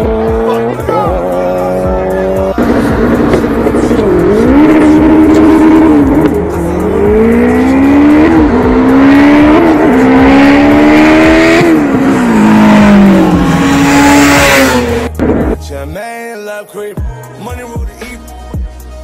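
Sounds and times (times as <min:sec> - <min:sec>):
race car engines accelerating: 0:00.0 - 0:15.6.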